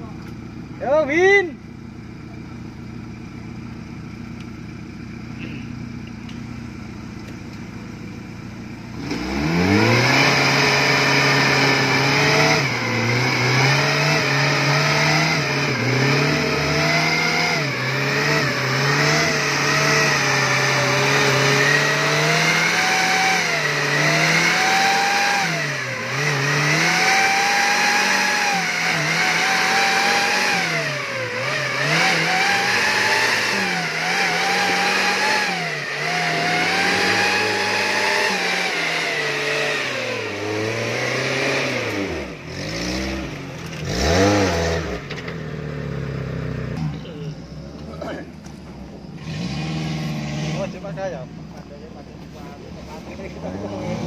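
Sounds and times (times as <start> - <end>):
engine revving under load: 3.6 - 54.0.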